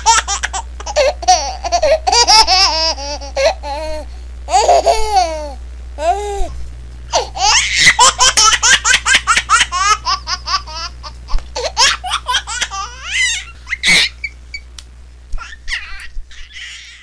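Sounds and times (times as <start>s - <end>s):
baby laughing: 0.0s - 6.5s, 7.1s - 14.4s, 15.4s - 17.0s.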